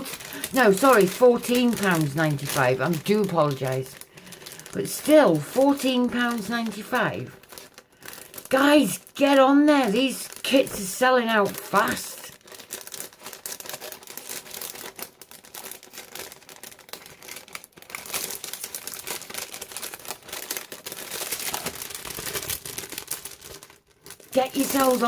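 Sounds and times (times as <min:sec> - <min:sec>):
packaging crinkling and rustling: 0:00.0 - 0:25.0
packaging ripping: 0:00.0 - 0:25.0.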